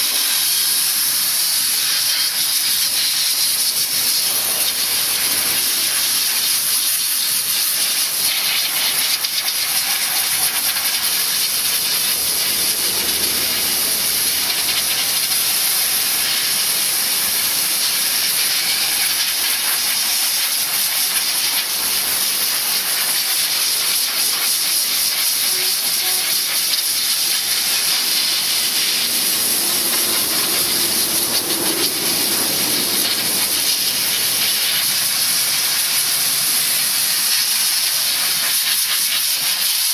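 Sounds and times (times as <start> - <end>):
steam jet hissing: 0.0 - 39.9.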